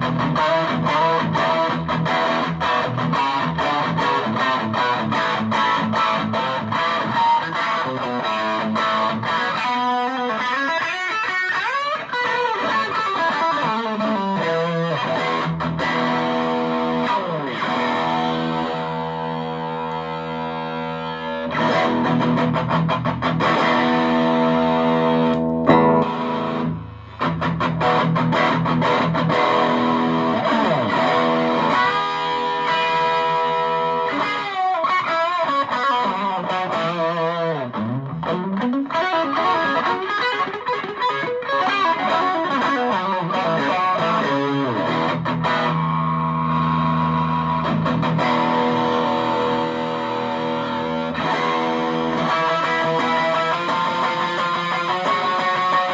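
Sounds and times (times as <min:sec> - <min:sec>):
distorted electric guitar: 0:00.0 - 0:55.9.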